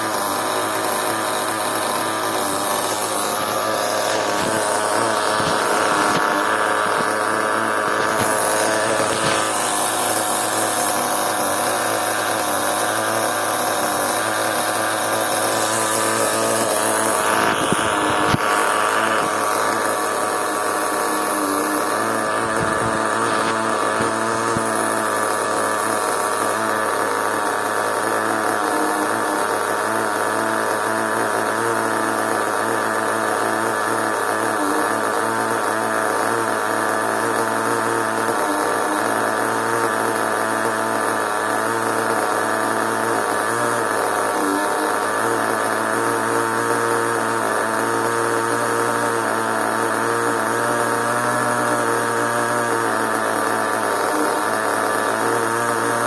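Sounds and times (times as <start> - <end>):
small nitro engine running: 0.0 - 56.0.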